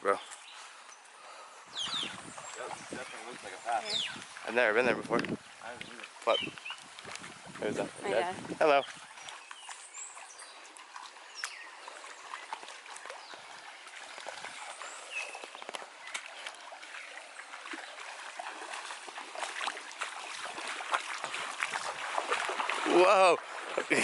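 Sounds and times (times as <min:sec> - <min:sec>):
small splashes and clicks: 0:02.4 - 0:07.7, 0:08.9 - 0:24.0.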